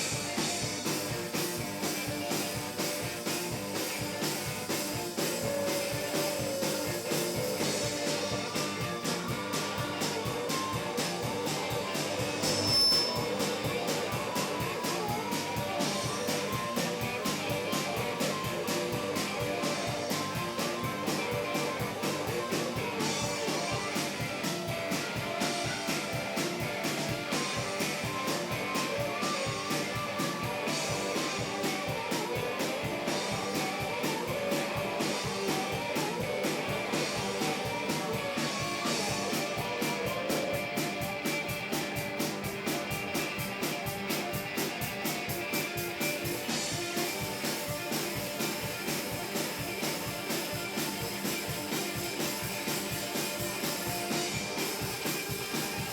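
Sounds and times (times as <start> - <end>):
blues band playing: 0.0 - 55.9
electric guitar: 0.0 - 55.9
fast drum beat: 0.0 - 55.9.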